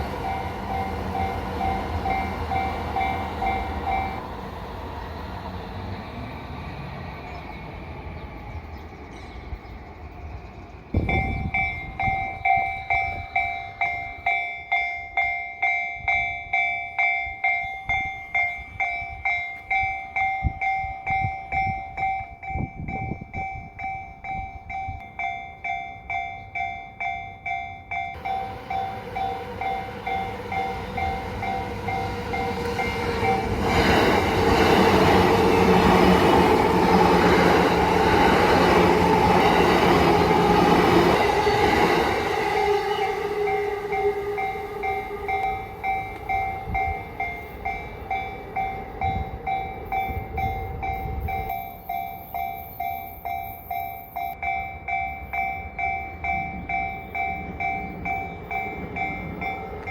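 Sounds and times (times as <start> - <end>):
level-crossing bell clanging: 0.0 - 4.3, 11.0 - 59.9
train passing loudly: 0.0 - 59.9.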